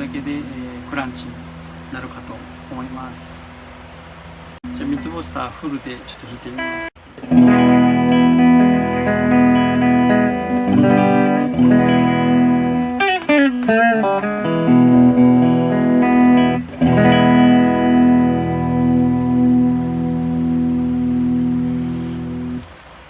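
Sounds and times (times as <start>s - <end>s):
electric guitar ringing chords: 0.0s - 22.7s.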